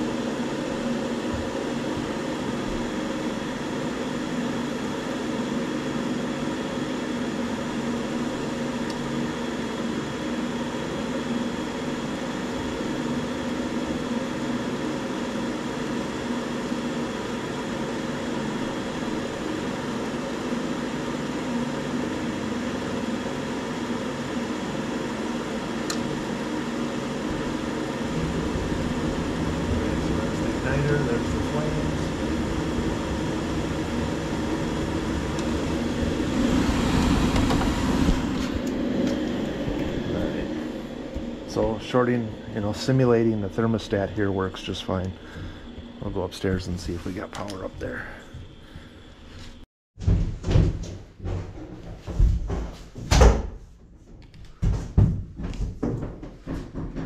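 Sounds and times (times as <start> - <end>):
furnace humming: 0.0 - 57.0.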